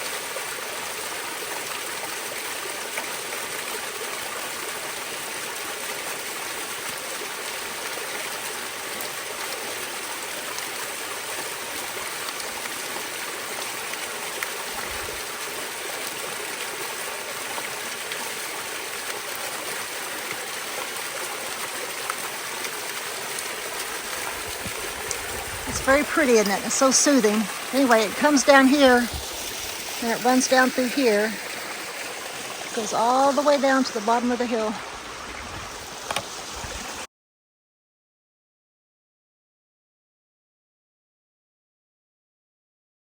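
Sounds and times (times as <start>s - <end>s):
waterfall pouring over rock: 0.0s - 37.1s.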